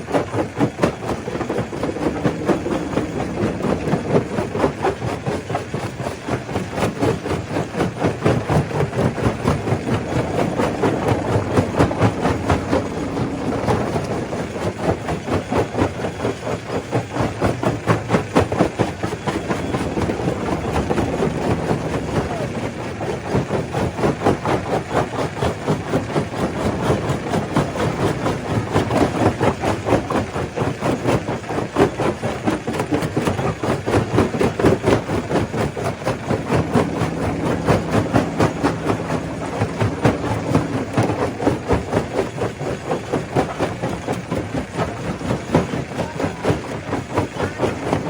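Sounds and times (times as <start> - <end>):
steady hum: 1.0 - 16.8, 18.5 - 31.5, 34.0 - 48.0.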